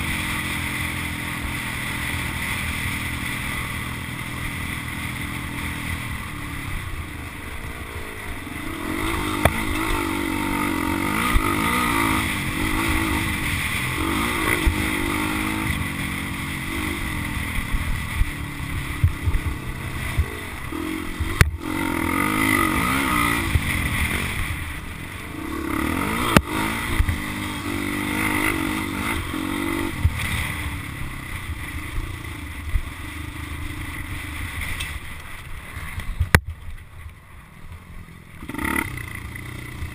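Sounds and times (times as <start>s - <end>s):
dirt bike engine revving: 0.0s - 34.8s, 38.4s - 39.9s.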